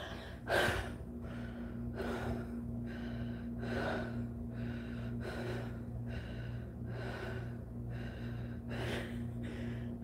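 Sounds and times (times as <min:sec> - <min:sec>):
steady low hum: 0:00.0 - 0:10.0
woman breathing heavily: 0:00.0 - 0:10.0.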